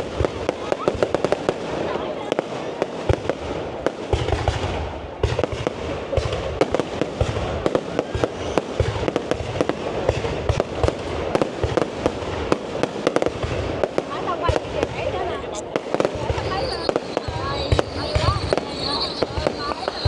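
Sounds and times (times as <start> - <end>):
deep firework booms: 0.0 - 20.0
fireworks bangs and crackles: 0.0 - 20.0.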